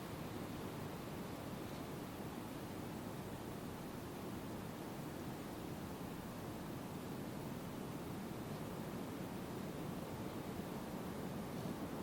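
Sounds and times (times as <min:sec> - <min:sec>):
low rushing background noise: 0:00.0 - 0:12.0.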